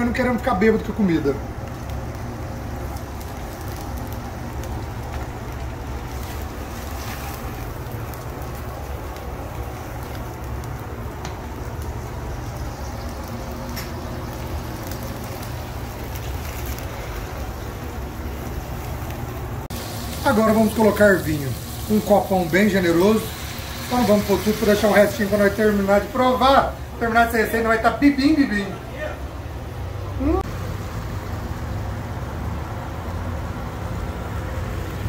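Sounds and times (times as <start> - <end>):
flames burning with low rumble: 0.0 - 35.0.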